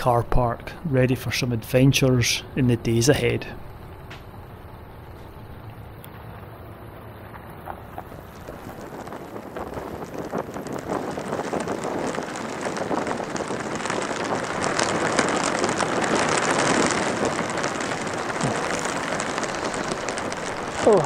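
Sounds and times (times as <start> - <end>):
gusting wind rushing: 0.0 - 21.0
heavy rain patter: 0.0 - 21.0.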